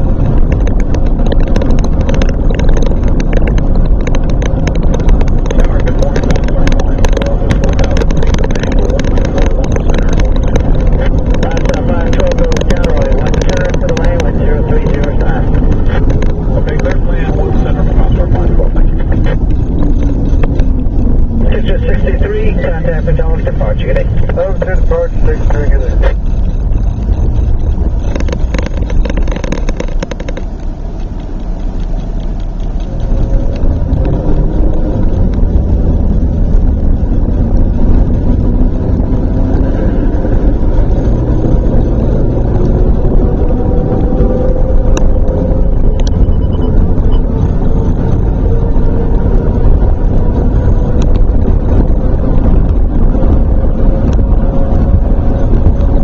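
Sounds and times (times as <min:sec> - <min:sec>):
vehicle engine and tyre rumble: 0:00.0 - 0:56.0.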